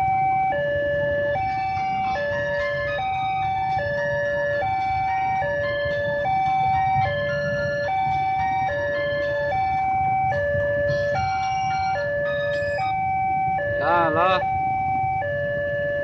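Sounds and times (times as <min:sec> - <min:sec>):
motorcycles and traffic rumble: 0:00.0 - 0:16.0.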